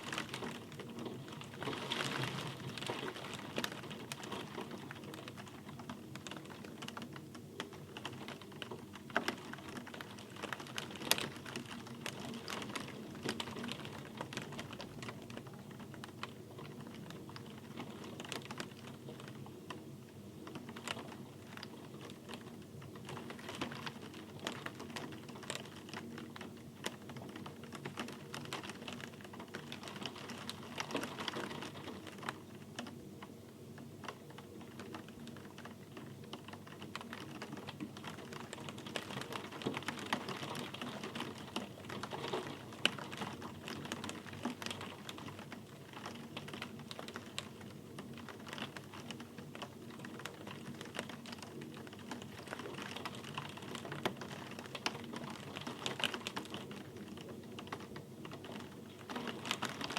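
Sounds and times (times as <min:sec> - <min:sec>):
raindrops clicking on hard surface: 0:00.0 - 0:59.9
soft rain hiss: 0:00.0 - 0:59.9.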